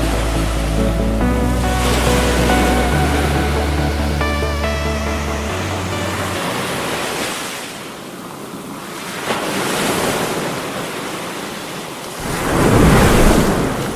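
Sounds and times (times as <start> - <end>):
ocean waves breaking: 0.0 - 13.9.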